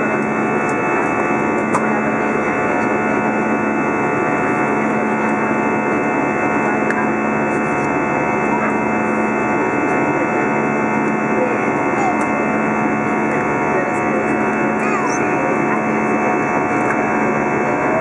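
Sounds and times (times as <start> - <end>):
constant low hum: 0.0 - 18.0
jet engines droning: 0.0 - 18.0.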